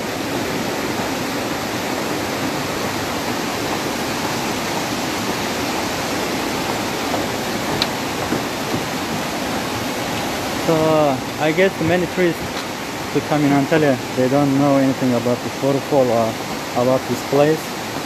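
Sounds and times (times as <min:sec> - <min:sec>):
waterfall roar: 0:00.0 - 0:18.0.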